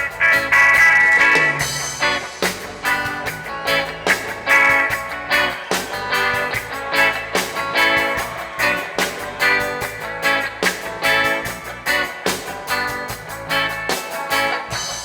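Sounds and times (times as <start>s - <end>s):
reggae band playing live: 0.0s - 15.0s.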